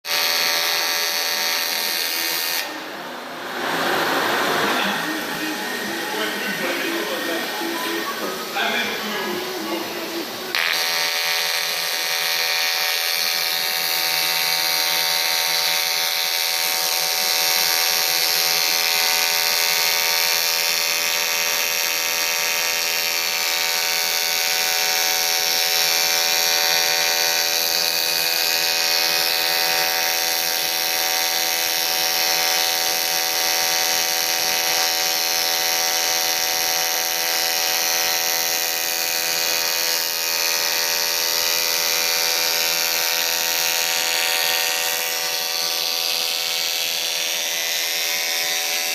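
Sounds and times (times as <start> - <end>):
welding arc buzzing: 0.0 - 48.9.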